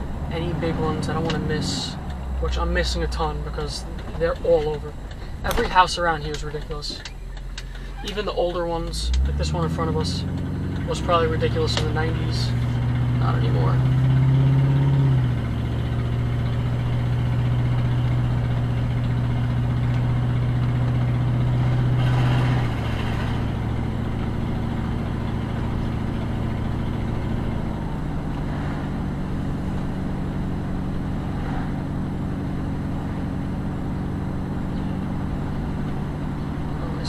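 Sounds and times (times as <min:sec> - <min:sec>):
car engine humming: 0:00.0 - 0:37.0.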